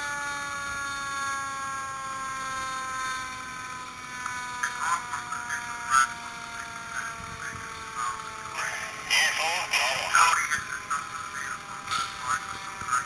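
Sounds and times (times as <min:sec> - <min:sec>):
siren winding down: 0:00.0 - 0:13.0.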